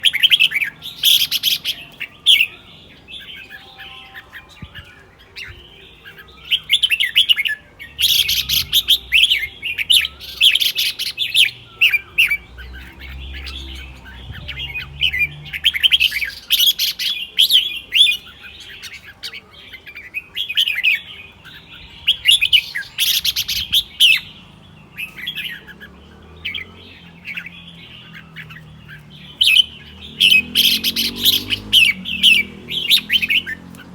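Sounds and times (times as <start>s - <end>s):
bulbul singing chirpy phrases: 0.0s - 33.8s
soft bird calls: 0.0s - 33.9s.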